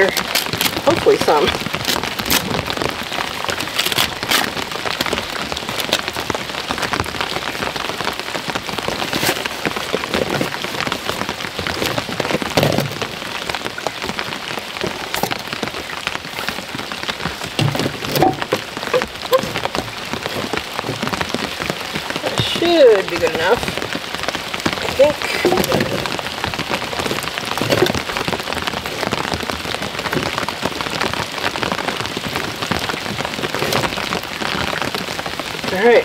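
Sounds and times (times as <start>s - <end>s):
raindrops striking close by: 0.0s - 36.0s
steady rain falling: 0.0s - 36.0s.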